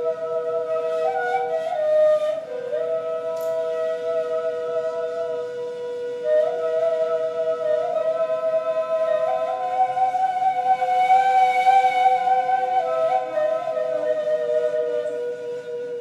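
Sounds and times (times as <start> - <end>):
reed flutes playing duet: 0.0 - 16.0.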